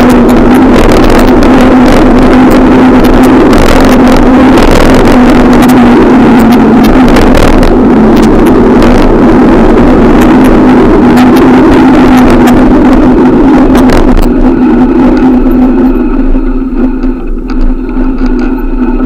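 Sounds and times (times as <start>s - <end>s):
vehicle riding hum: 0.0s - 19.0s.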